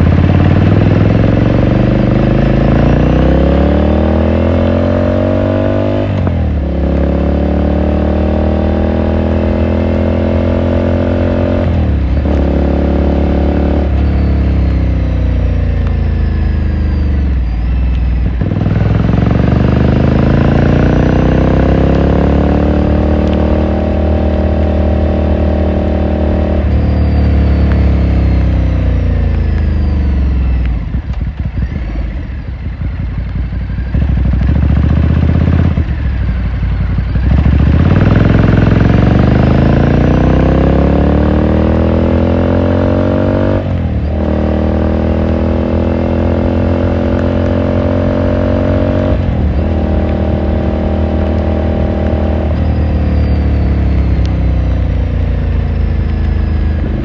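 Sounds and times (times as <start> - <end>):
exhaust crackle on overrun: 0.0 - 5.4, 9.0 - 57.0
motorcycle exhaust revving: 0.0 - 57.0.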